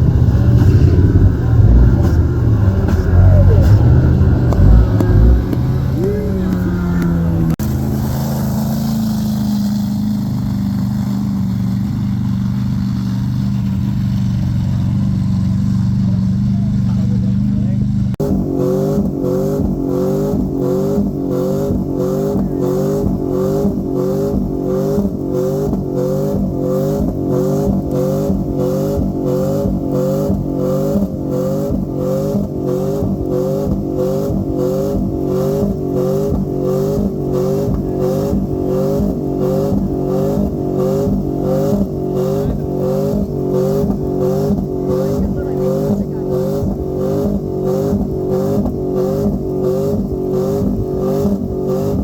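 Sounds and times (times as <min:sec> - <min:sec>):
vehicle engine at high revs: 0:00.0 - 0:52.0.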